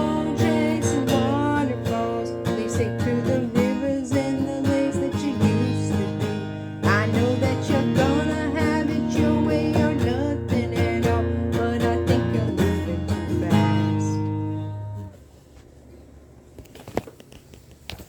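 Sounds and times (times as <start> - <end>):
acoustic guitar strumming: 0.0 - 15.2.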